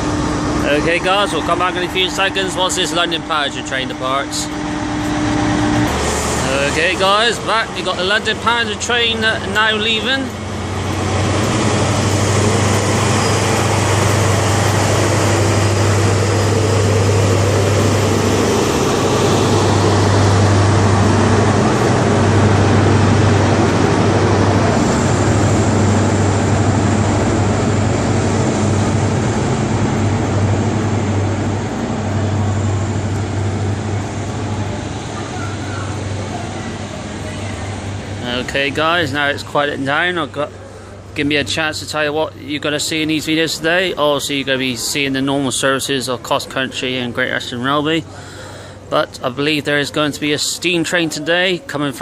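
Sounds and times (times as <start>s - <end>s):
diesel train engine drone: 0.0s - 52.0s
wheel and rail noise: 0.0s - 52.0s.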